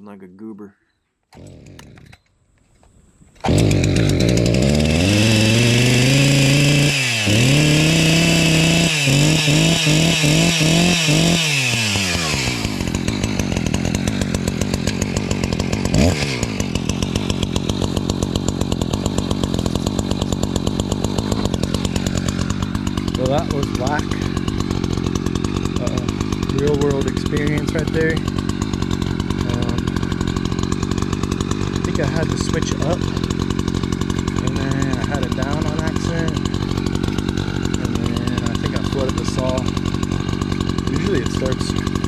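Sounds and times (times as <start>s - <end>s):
chainsaw engine revving: 1.3s - 2.3s, 3.4s - 42.0s.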